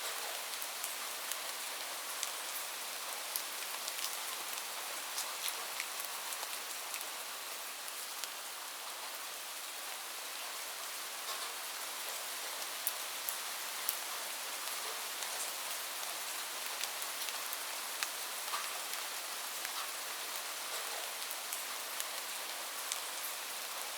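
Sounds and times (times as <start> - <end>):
raindrops ticking on a surface: 0.0 - 23.9
steady rain: 0.0 - 23.9.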